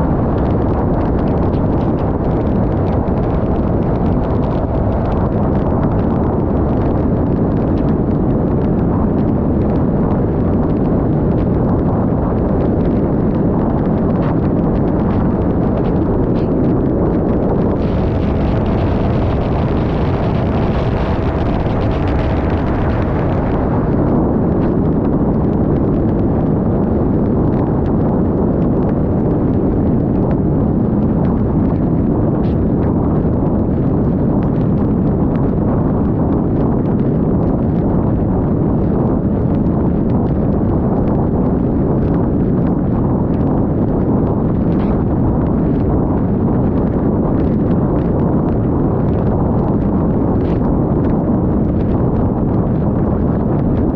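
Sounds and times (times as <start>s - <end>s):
faint steady hum: 0.0s - 53.9s
wind rush on microphone: 0.0s - 53.9s.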